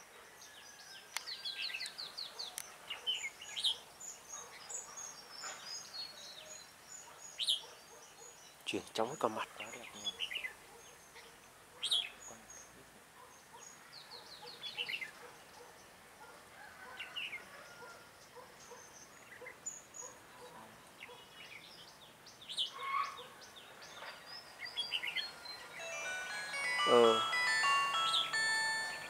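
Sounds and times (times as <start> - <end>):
bird chirping: 0.0 - 16.0, 18.2 - 29.0
other birds in background: 0.0 - 29.0.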